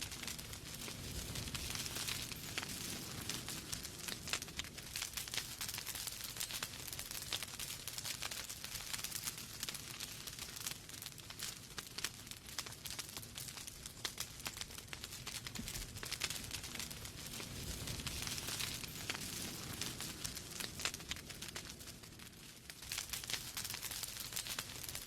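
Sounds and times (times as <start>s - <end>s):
low rumble of burning logs: 0.0s - 25.0s
wood fire crackling: 0.0s - 25.0s.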